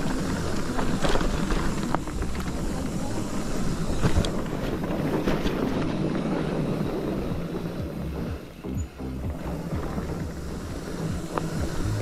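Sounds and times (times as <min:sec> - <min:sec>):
bike tyres rumbling on gravel: 0:00.0 - 0:12.0
wind buffeting microphone: 0:00.0 - 0:12.0.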